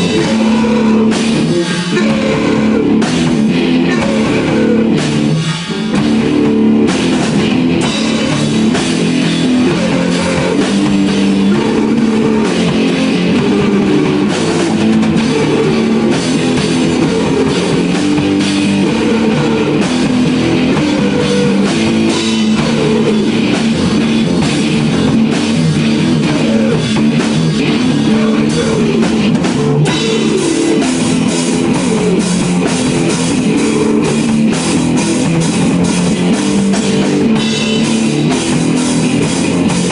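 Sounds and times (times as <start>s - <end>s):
drum kit playing: 0.0s - 39.9s
electric guitar: 0.0s - 39.9s.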